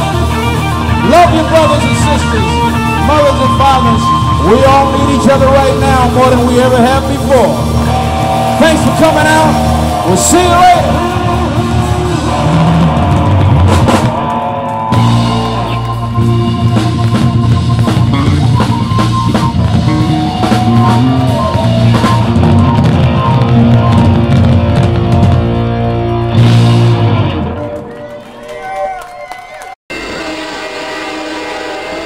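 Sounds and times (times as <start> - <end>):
drum kit: 0.0 - 27.8
bass guitar: 0.0 - 28.6
electric guitar: 0.0 - 28.6.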